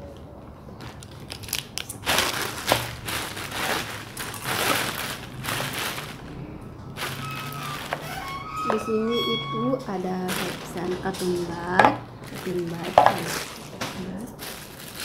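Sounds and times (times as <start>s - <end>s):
plastic mailer bags crinkling: 0.8s - 9.1s, 10.1s - 15.0s.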